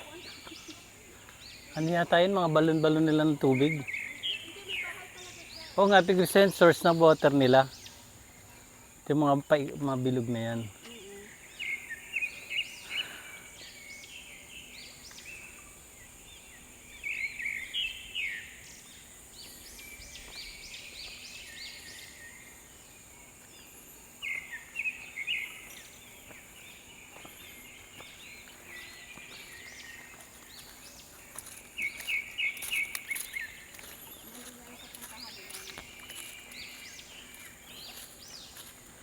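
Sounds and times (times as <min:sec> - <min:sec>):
birds chirping: 0:00.0 - 0:39.0
outdoor background noise: 0:00.0 - 0:39.0.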